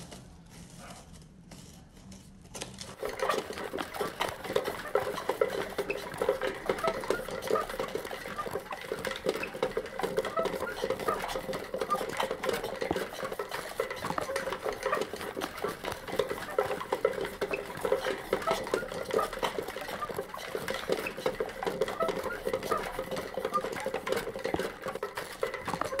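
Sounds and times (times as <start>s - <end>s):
wooden wagon rolling: 0.0s - 26.0s
small squeaks: 0.2s - 26.0s.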